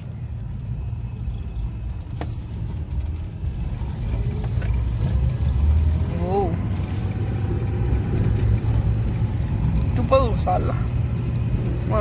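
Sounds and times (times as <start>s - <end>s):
pickup engine rumble: 0.0s - 12.0s.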